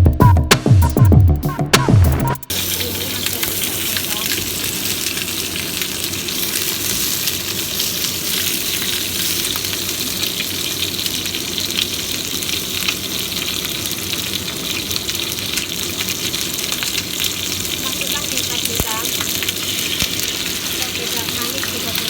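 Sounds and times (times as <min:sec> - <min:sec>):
food sizzling in hot oil: 0:02.5 - 0:22.0
oil popping: 0:02.5 - 0:22.0.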